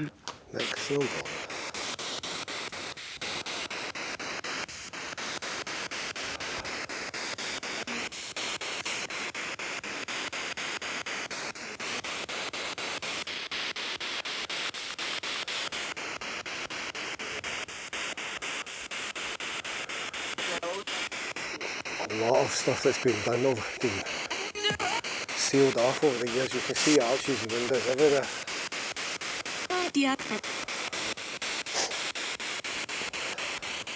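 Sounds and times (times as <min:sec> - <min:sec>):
quick radio clicks: 0:00.0 - 0:33.9
radio static sweeping: 0:00.0 - 0:33.9.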